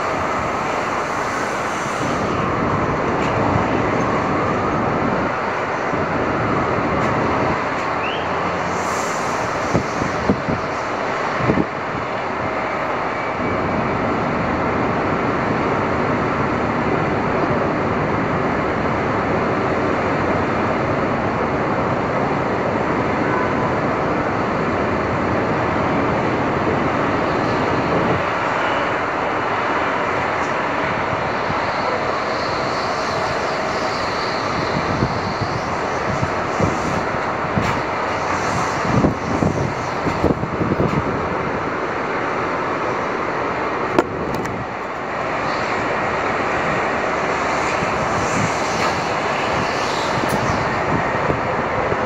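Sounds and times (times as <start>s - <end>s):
traffic: 0.0s - 52.0s
wind: 0.0s - 52.0s.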